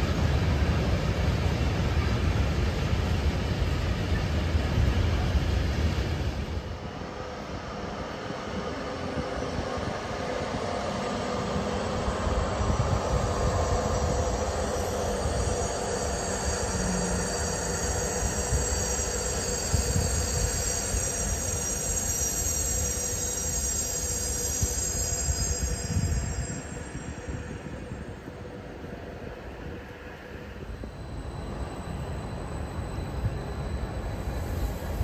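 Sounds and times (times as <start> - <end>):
train wheels squealing on rails: 0.0 - 35.0.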